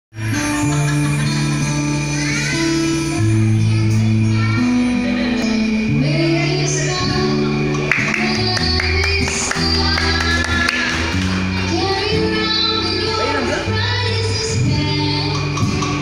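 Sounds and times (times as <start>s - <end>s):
acoustic guitar: 0.2s - 16.0s
woman singing: 0.6s - 16.0s.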